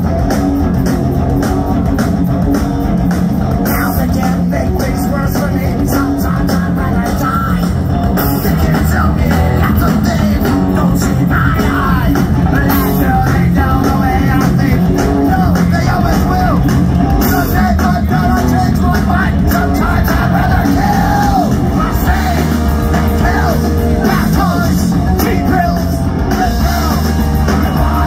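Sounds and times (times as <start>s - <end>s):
punk rock band playing: 0.0s - 28.0s
man singing: 3.6s - 28.0s.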